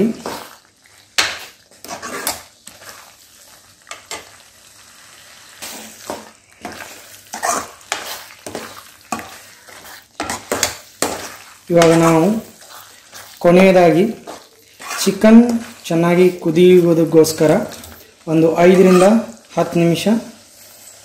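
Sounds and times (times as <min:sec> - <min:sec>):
spoon scraping in thick gravy: 0:00.0 - 0:19.4
light sizzle from hot pan: 0:00.0 - 0:21.0.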